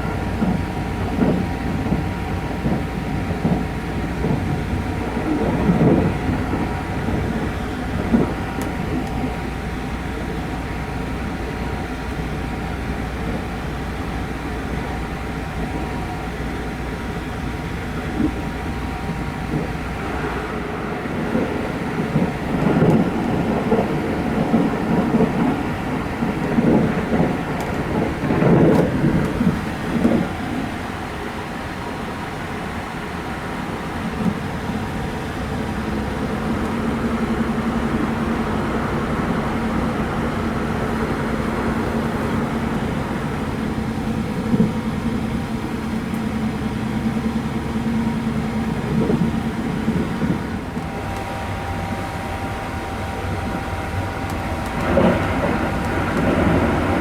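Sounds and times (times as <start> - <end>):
train rolling: 0.0 - 57.0.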